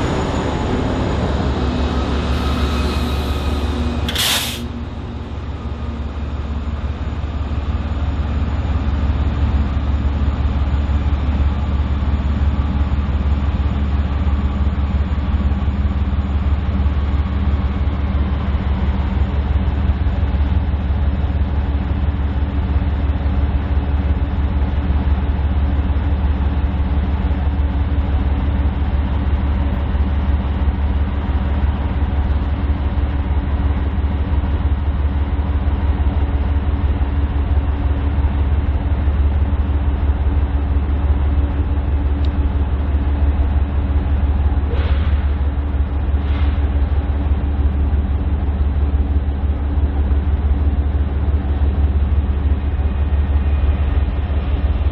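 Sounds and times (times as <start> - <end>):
diesel locomotive engines rumbling: 0.0 - 54.9.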